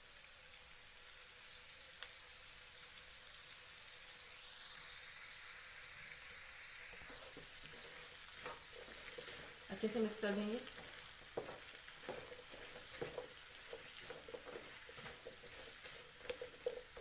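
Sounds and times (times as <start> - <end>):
soft steady sizzle: 0.0 - 17.0.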